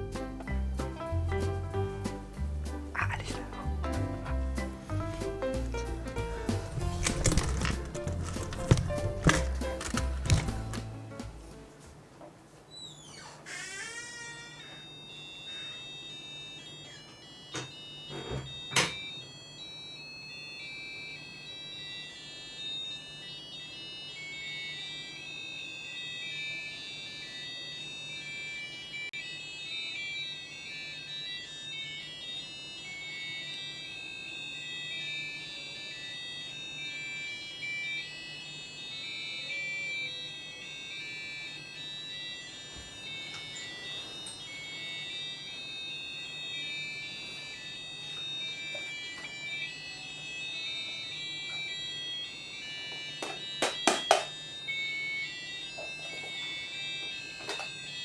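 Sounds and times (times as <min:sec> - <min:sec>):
digital alarm clocks beeping: 0:00.0 - 0:10.9, 0:13.1 - 0:58.0.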